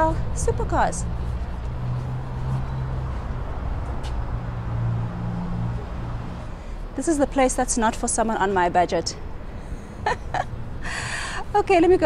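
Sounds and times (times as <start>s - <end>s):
street noise: 0.0s - 12.0s
vehicle engine humming: 0.0s - 12.0s.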